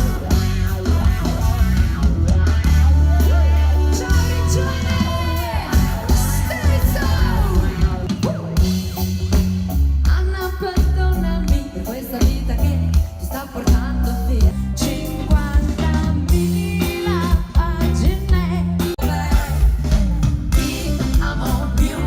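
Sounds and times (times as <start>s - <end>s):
guitar: 0.0s - 22.0s
heavy bass: 0.0s - 22.0s
person singing: 2.2s - 8.6s, 10.0s - 20.0s, 20.6s - 22.0s.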